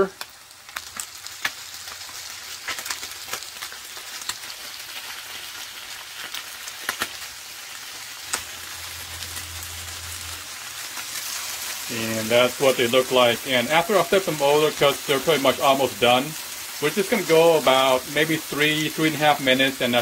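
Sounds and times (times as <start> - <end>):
fish sizzling in a frying pan: 0.0 - 20.0.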